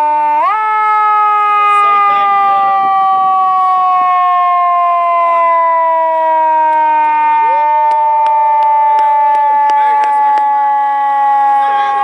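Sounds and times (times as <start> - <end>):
fire truck siren wailing: 0.0 - 12.0.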